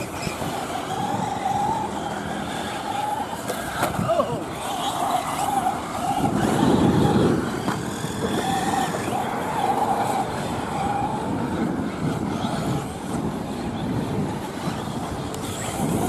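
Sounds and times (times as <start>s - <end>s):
high motor whine: 0.0s - 16.0s.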